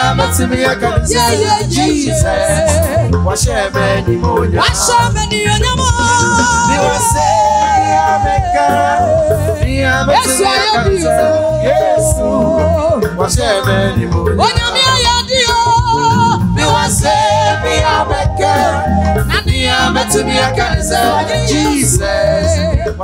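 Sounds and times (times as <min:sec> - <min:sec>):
woman singing into microphone: 0:00.0 - 0:03.7, 0:04.6 - 0:13.0, 0:14.4 - 0:23.0
live band playing: 0:00.0 - 0:23.0.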